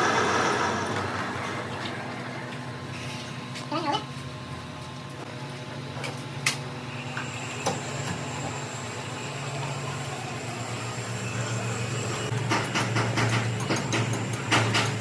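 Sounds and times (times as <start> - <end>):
machinery low hum: 0.0 - 15.0.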